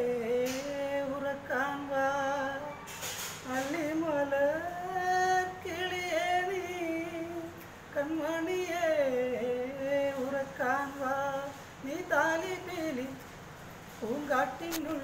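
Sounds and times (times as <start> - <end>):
man singing unaccompanied: 0.0 - 13.2, 14.0 - 15.0.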